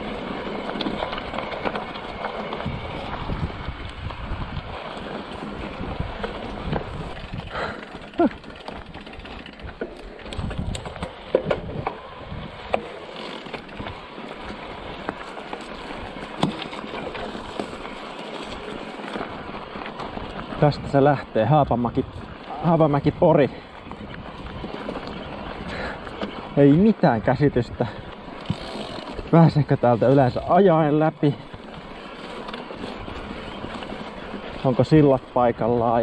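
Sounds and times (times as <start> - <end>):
bike knocking and rattling: 0.0 - 36.0.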